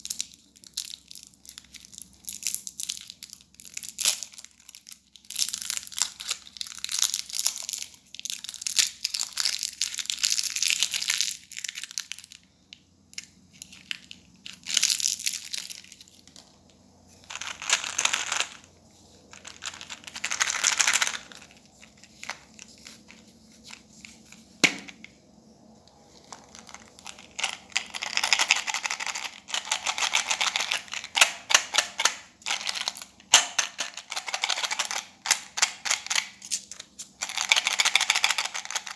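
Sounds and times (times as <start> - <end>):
candy packaging crinkling: 0.0 - 25.0, 25.9 - 38.9.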